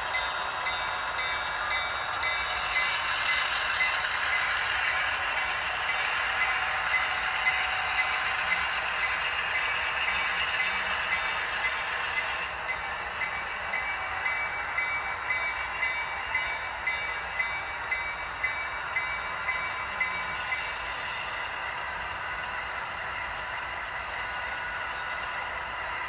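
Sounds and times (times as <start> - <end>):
model train whirring: 0.0 - 26.0
regular track clicks: 0.0 - 26.0.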